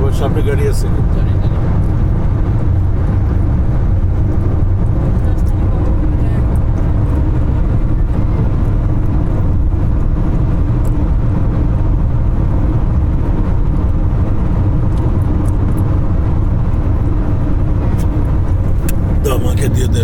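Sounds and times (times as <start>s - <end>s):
car cabin road noise: 0.0s - 20.0s.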